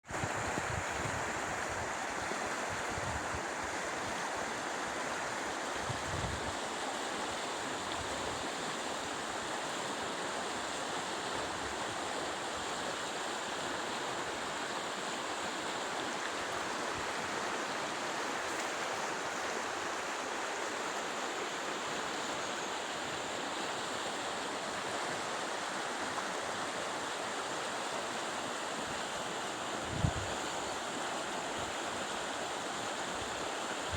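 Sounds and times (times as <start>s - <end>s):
flowing water rushing: 0.0s - 33.9s.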